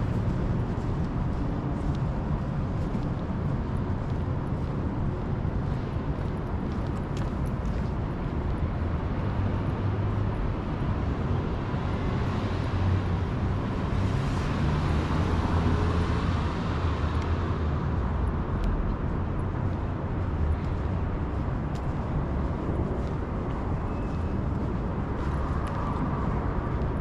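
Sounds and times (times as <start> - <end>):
traffic drone: 0.0 - 27.0.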